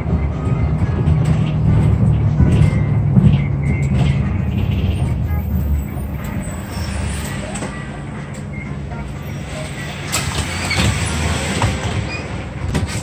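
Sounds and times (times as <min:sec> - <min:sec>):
bus engine humming: 0:00.0 - 0:13.0
road noise: 0:00.0 - 0:13.0.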